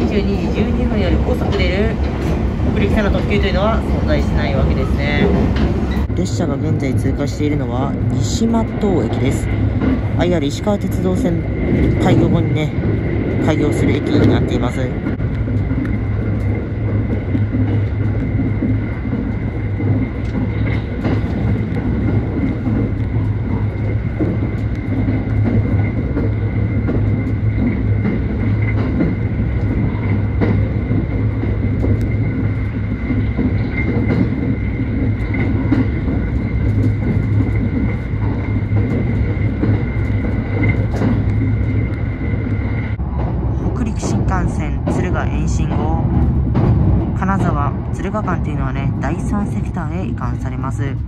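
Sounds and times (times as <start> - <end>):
train low rumble: 0.0 - 51.0
wheel clicks on rails: 7.0 - 47.9.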